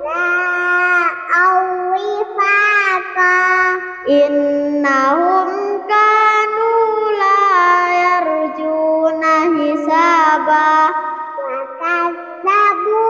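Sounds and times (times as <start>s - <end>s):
child chanting melodic recitation: 0.0s - 13.0s.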